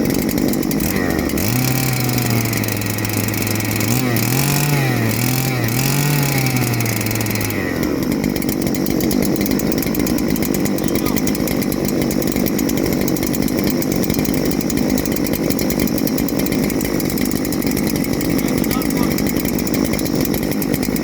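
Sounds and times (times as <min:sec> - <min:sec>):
chainsaw engine running loudly: 0:00.0 - 0:21.0.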